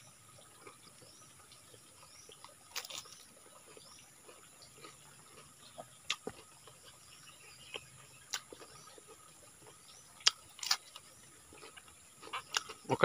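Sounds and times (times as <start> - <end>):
faint bird chirp: 0.0 - 13.0
person eating and chewing: 0.3 - 13.0.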